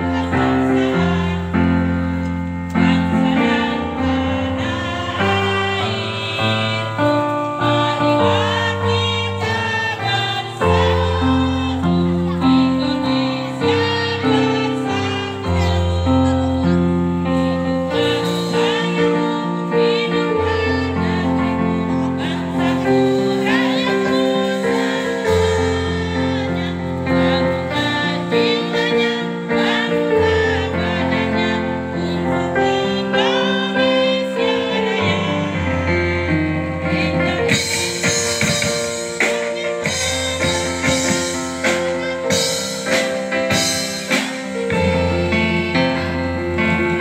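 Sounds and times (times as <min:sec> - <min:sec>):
choir singing in unison: 0:00.0 - 0:16.9, 0:17.7 - 0:47.0
instrumental accompaniment: 0:00.0 - 0:47.0.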